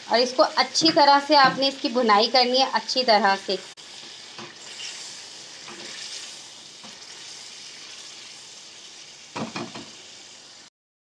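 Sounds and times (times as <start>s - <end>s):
meat sizzling in oil: 0.0s - 10.7s.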